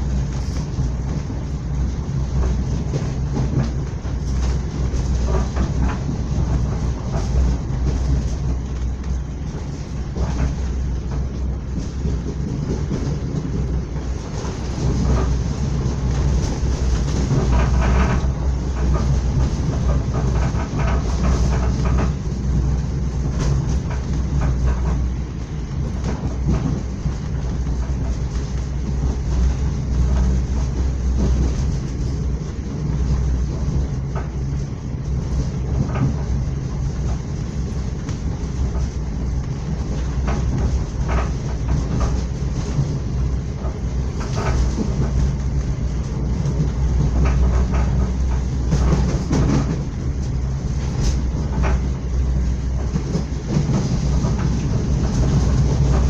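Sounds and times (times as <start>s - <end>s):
train wheels rumbling on rails: 0.0s - 56.0s
wheels clacking over rail joints: 0.0s - 56.0s.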